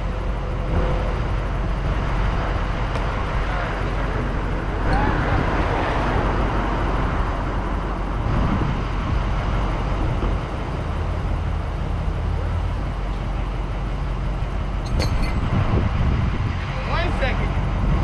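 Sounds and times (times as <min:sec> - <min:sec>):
winch dragging truck: 0:00.0 - 0:15.9
truck engine running: 0:00.0 - 0:18.0.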